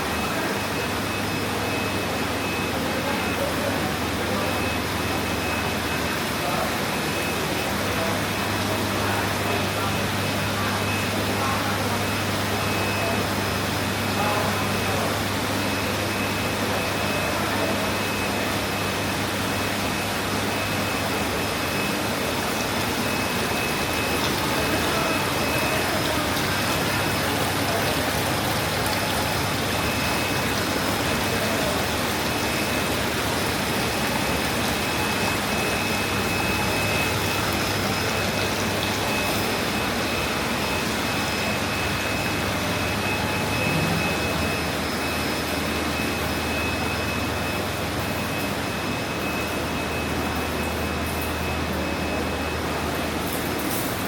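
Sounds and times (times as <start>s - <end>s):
ventilation hum and hiss: 0.0s - 54.0s.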